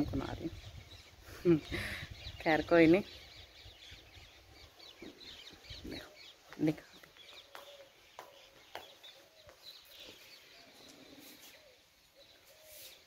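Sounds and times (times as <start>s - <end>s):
lower wavering bird calls: 0.5s - 13.0s.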